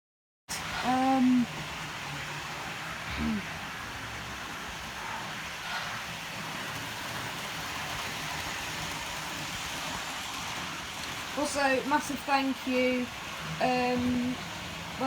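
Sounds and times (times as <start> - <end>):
wheel and rail noise: 0.5 - 15.0
model train motor hum: 0.6 - 15.0.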